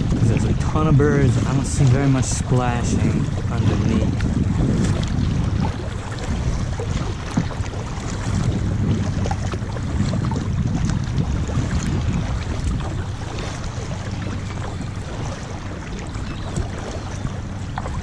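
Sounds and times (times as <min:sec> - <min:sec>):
faint water noise: 0:00.0 - 0:18.0
wind buffeting microphone: 0:00.0 - 0:18.0.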